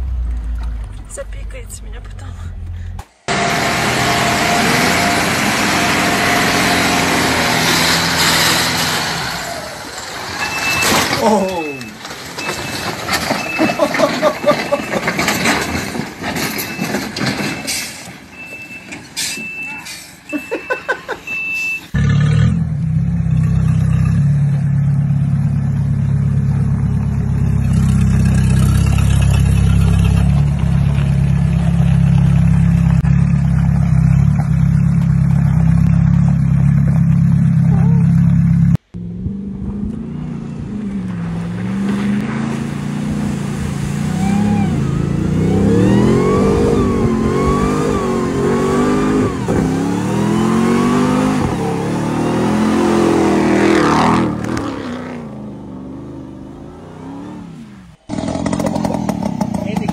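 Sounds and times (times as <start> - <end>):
car engine droning: 0.0 - 17.5, 20.4 - 59.9
truck engine revving: 0.0 - 18.1, 19.2 - 59.9.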